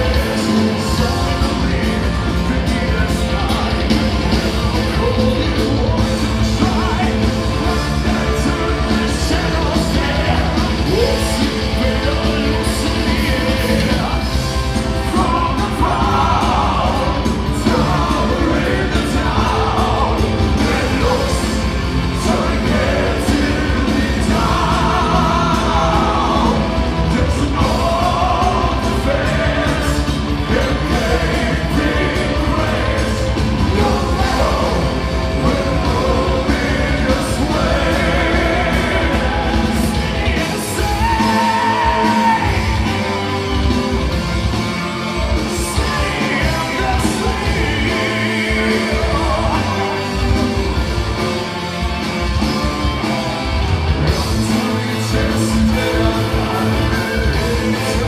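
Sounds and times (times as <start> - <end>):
live metal band through pa: 0.0 - 58.0.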